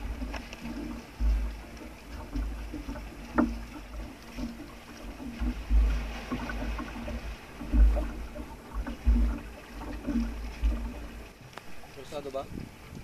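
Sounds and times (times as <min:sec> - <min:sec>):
deep thuds: 0:00.0 - 0:11.3
water lapping against hull: 0:00.0 - 0:13.0.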